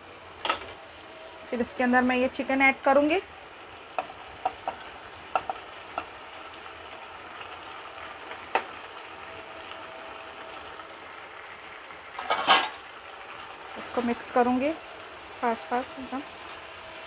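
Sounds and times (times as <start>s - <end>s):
vegetables sizzling in wok: 0.0s - 17.0s.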